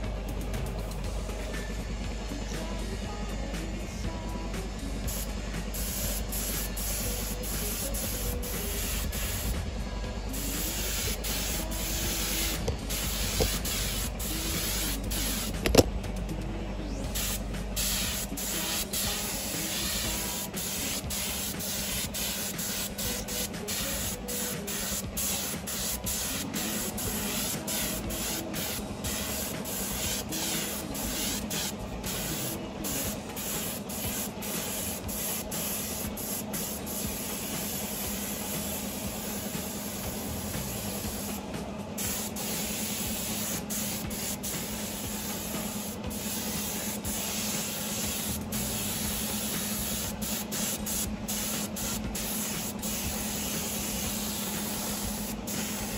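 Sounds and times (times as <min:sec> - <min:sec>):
low steady hum: 0:00.0 - 0:55.9
spraying hiss: 0:05.0 - 0:09.7, 0:10.3 - 0:15.8, 0:17.1 - 0:55.9.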